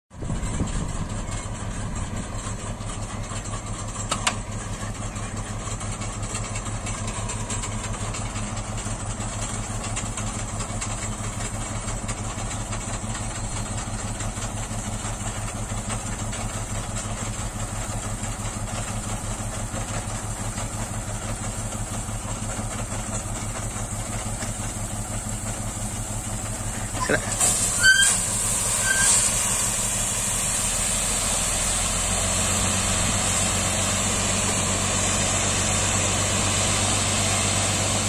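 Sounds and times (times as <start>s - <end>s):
truck engine running: 0.1s - 38.0s.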